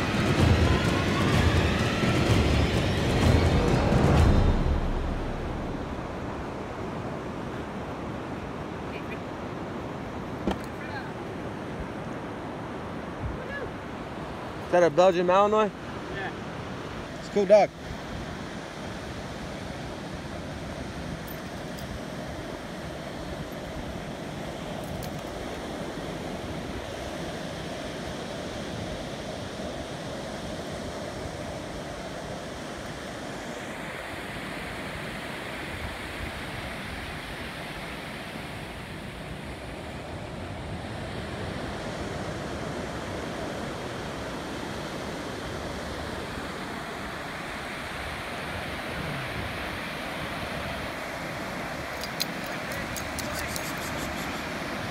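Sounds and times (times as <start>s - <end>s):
ocean surf breaking: 0.0s - 21.2s, 25.4s - 54.9s.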